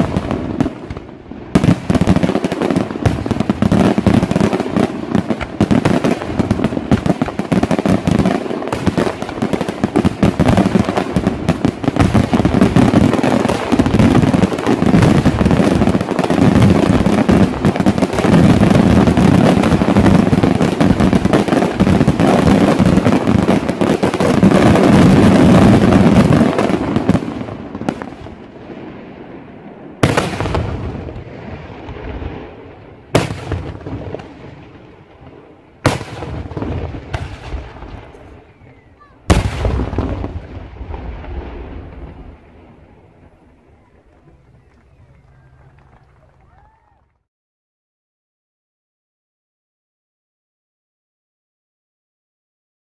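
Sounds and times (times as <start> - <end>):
loud firework bangs: 0.0 - 46.8
fireworks bangs and crackling: 0.0 - 47.0.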